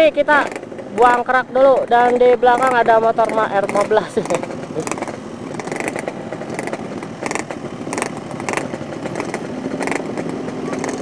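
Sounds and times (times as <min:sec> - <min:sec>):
two-stroke motorcycle engine crackling: 0:00.0 - 0:11.0.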